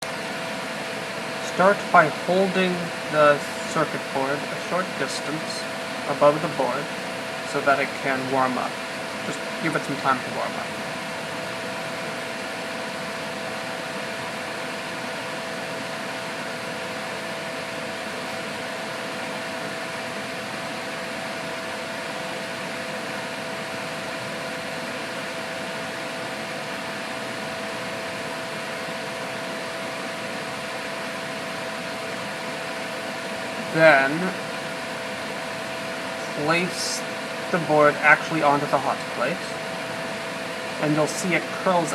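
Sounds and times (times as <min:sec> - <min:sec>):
whirring with two-note hum: 0:00.0 - 0:41.9.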